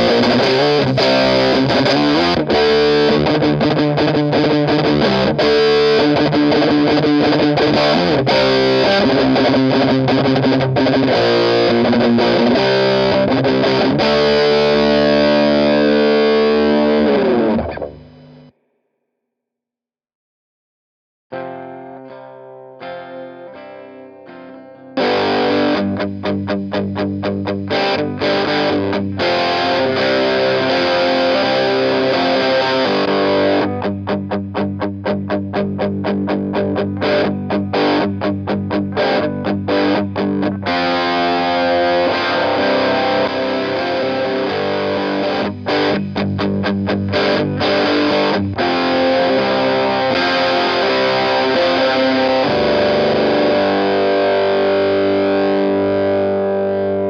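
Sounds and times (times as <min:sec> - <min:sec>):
quiet picked guitar notes: 0:00.0 - 0:18.5, 0:21.3 - 0:57.0
distorted electric guitar riffing: 0:00.0 - 0:18.6, 0:21.3 - 0:57.0.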